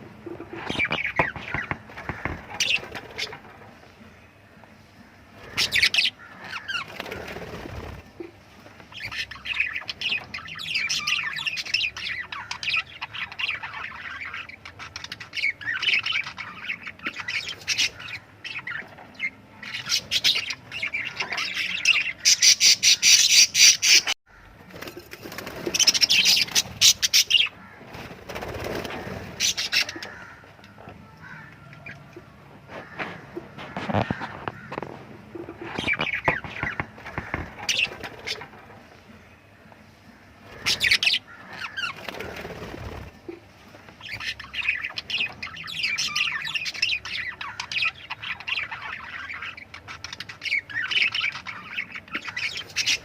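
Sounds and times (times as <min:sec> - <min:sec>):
lovebirds chirping: 0:00.2 - 0:53.0.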